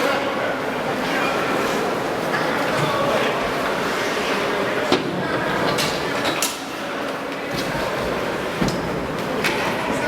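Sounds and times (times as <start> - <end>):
crowd chatter: 0.0 - 10.0.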